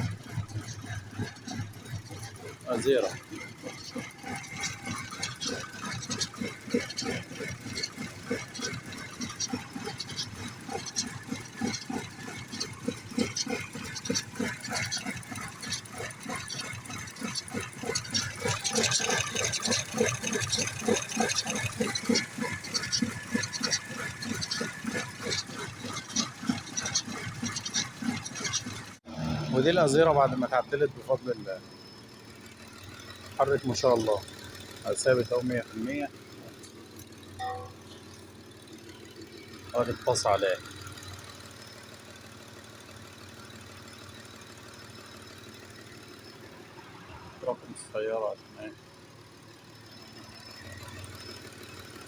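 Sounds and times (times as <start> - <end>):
engine idling roughly with misfire: 0.0 - 52.0.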